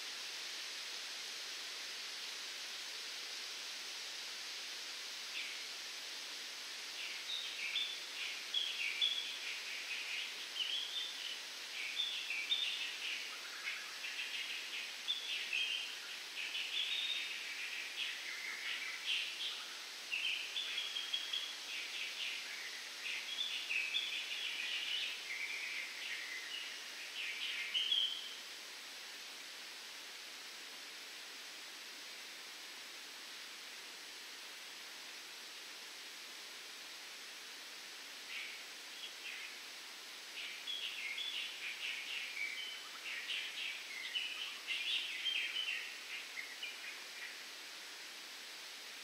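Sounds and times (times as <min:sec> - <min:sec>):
wind through palm fronds: 0:00.0 - 0:49.0.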